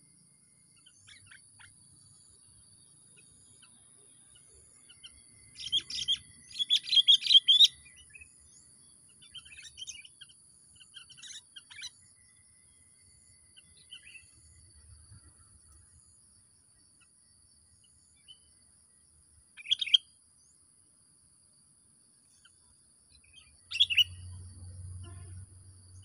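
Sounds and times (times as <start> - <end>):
faint high-pitched whine: 0.0 - 26.0
songbird chirping: 0.0 - 26.0.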